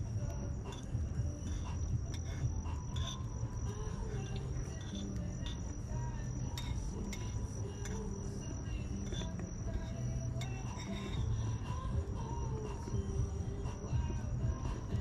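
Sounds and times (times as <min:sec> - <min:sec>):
bonfire crackling and popping: 0:00.0 - 0:15.0
low background rumble: 0:00.0 - 0:15.0
steady high-pitched tone: 0:00.0 - 0:15.0.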